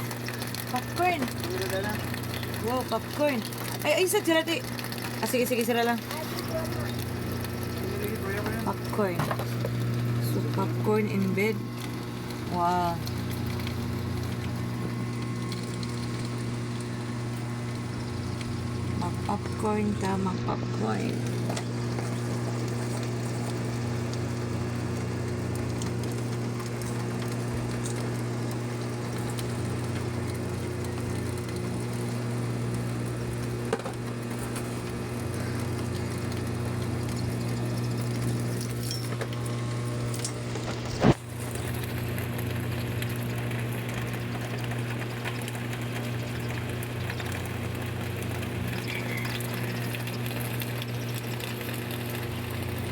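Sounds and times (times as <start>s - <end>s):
rain pattering: 0.0s - 52.9s
steady low hum: 0.0s - 52.9s.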